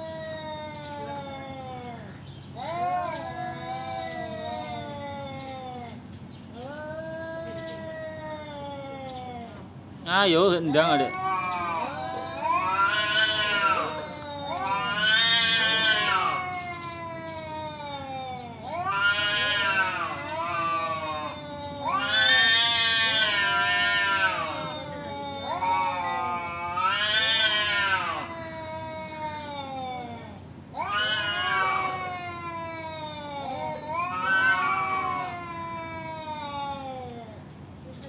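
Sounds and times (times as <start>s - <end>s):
cats caterwauling: 0.0s - 37.5s.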